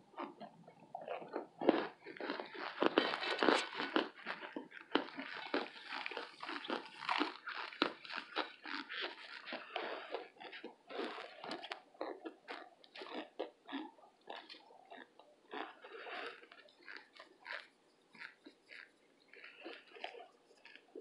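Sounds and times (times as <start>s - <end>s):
crunching of brittle baked brick: 1.0s - 21.0s.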